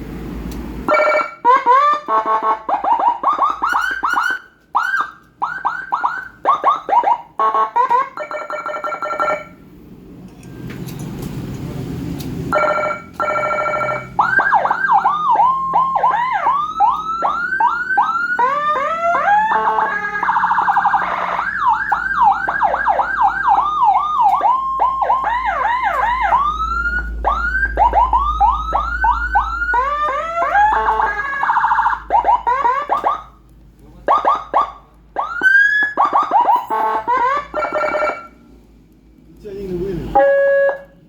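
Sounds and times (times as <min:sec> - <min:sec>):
electronic siren yelp sweeps: 0:00.9 - 0:09.5, 0:12.5 - 0:33.4, 0:34.1 - 0:38.4
siren horn-like blasts: 0:00.9 - 0:09.5, 0:12.5 - 0:33.4, 0:34.1 - 0:38.4, 0:40.0 - 0:41.0.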